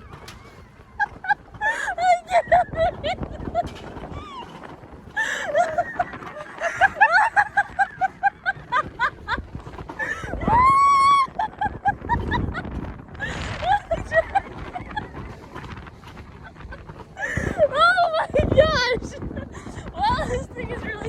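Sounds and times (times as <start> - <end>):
low rumble of wind: 0.0 - 21.0
riders laughing: 0.0 - 21.0
roller coaster car running: 0.0 - 21.0.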